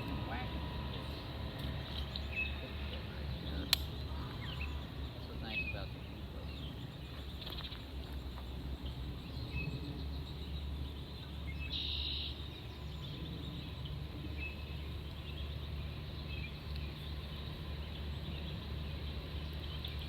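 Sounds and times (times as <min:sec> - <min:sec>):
bird chirps: 0:00.8 - 0:20.0.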